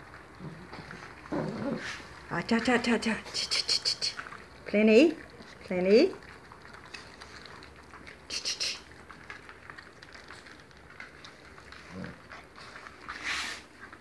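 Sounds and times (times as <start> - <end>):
puppies chewing and lapping: 0.0 - 14.0
puppies slurping: 0.0 - 14.0.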